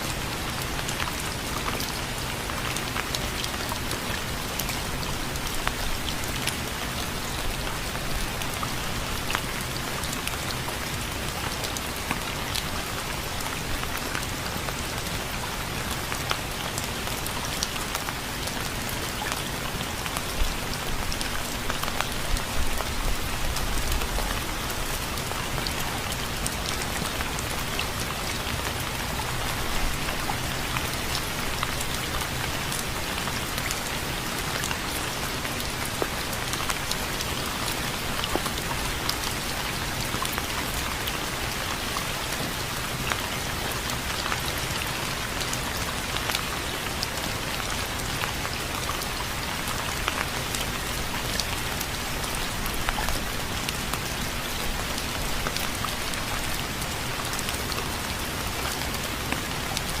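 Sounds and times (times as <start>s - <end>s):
rain on a hard surface: 0.0s - 60.0s.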